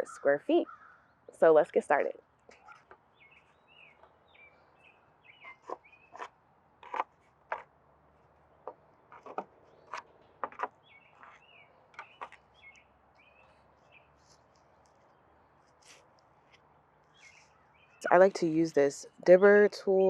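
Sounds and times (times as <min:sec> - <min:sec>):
birds chirping: 0:00.0 - 0:06.5, 0:08.2 - 0:20.0.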